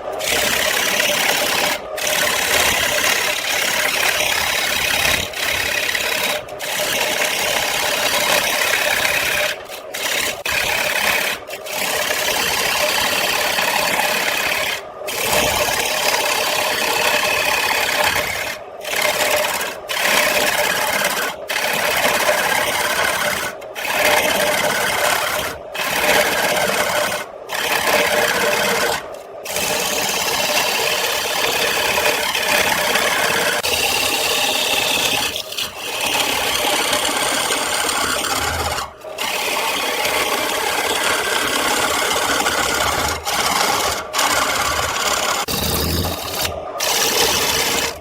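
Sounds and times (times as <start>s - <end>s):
lathe tool scraping wood: 0.0s - 48.0s.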